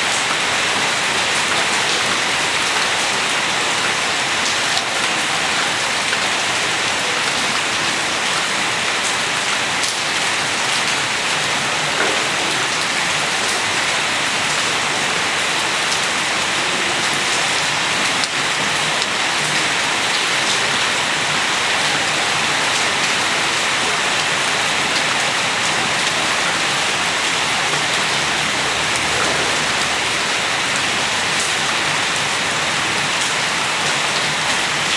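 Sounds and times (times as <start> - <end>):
rain pattering on hard surfaces: 0.0 - 34.9.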